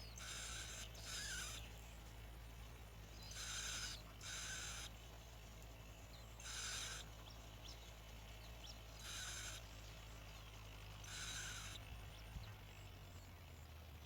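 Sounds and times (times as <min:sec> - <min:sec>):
harsh rasping bird calls: 0:00.0 - 0:02.0, 0:03.0 - 0:12.3
steady low hum: 0:00.0 - 0:14.0.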